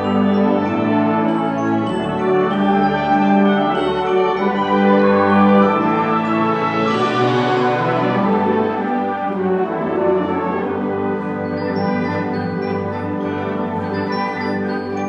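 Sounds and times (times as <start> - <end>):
wind ensemble brass chords: 0.0 - 15.0.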